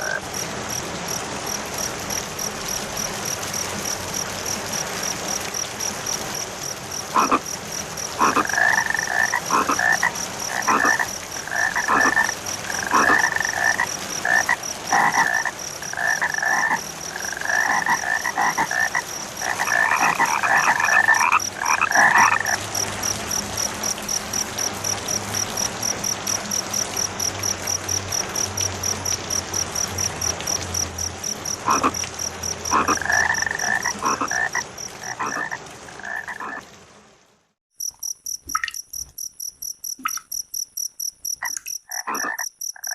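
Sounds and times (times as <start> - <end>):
frogs croaking: 0.0 - 36.6, 37.8 - 42.9
rain-like hiss: 0.0 - 42.9.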